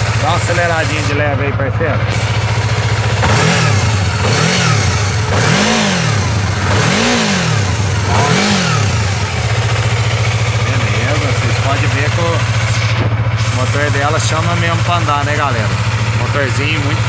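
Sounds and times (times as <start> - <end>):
motorcycle engine idling and blipping: 0.0 - 17.0.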